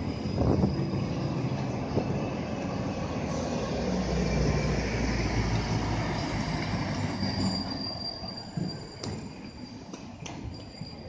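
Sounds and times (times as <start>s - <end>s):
road traffic rumble: 0.0s - 10.7s
tram running on track: 0.0s - 11.0s
tram wheels squealing on rails: 0.0s - 11.0s.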